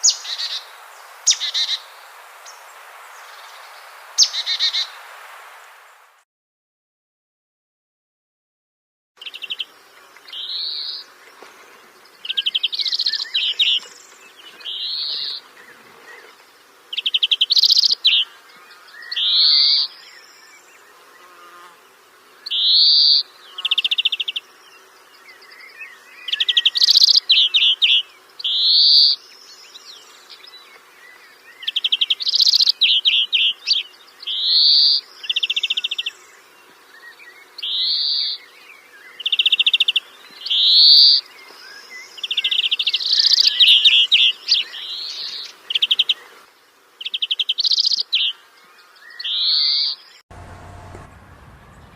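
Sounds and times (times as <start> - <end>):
songbird buzzy trills: 9.2 - 51.9.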